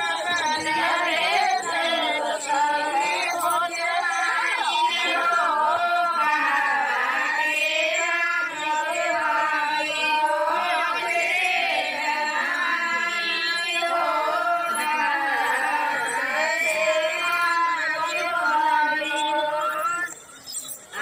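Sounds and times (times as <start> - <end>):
women singing together: 0.0 - 21.0.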